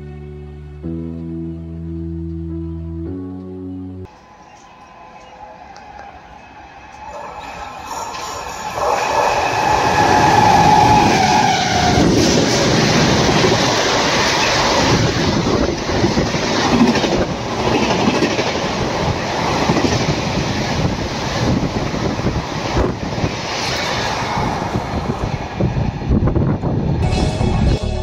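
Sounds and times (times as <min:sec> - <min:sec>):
train wheels rumbling on rails: 0:04.1 - 0:28.0.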